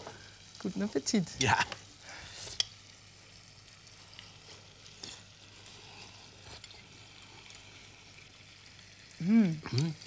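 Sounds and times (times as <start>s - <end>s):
potatoes sizzling in a pan: 0.0s - 10.0s.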